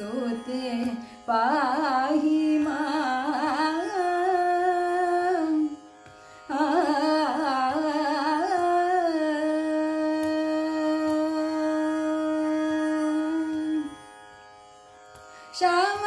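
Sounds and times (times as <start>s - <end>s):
woman singing devotional song: 0.0s - 14.1s, 15.4s - 16.0s.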